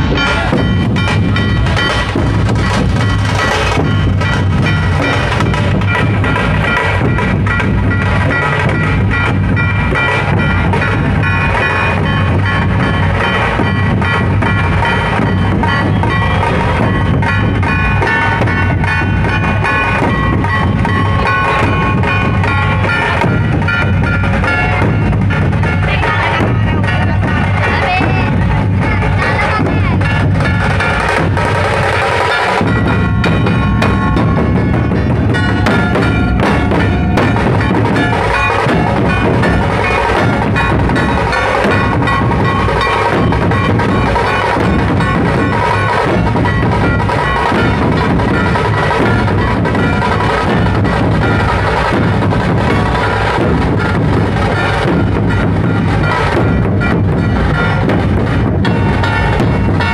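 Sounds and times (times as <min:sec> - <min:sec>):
barrel drums beating: 0:00.0 - 0:59.9.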